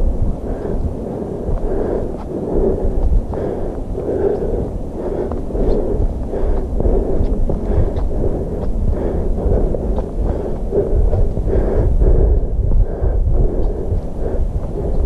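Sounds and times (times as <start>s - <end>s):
low rumble: 0.0s - 15.0s
footsteps on rocky dirt trail: 1.4s - 15.0s.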